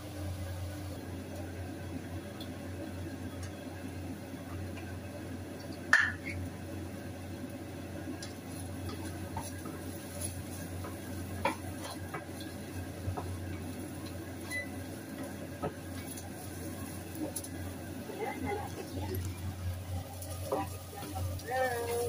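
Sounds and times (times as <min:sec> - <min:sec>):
onions sizzling: 0:00.0 - 0:22.0.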